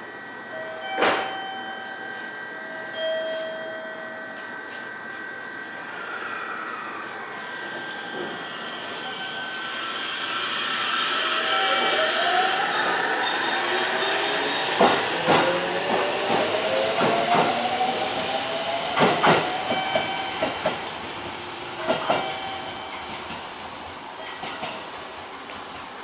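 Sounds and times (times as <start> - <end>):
electric train motor whine: 0.0 - 23.4.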